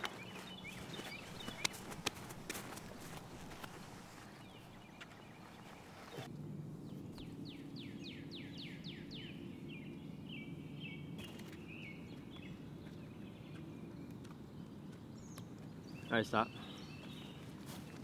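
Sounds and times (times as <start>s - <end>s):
low background hum: 0.0s - 18.0s
songbird singing: 0.0s - 18.0s.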